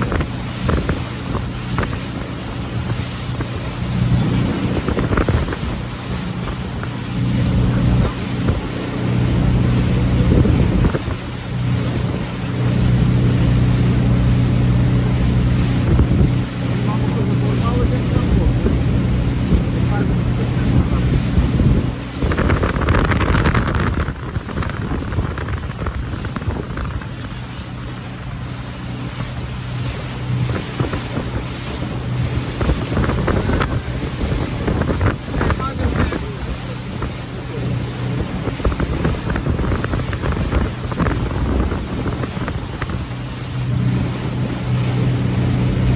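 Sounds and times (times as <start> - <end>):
boat motor humming: 0.0 - 45.9
sea water rushing: 0.0 - 45.9
water splashes: 0.0 - 45.9
wind buffeting microphone: 0.0 - 45.9.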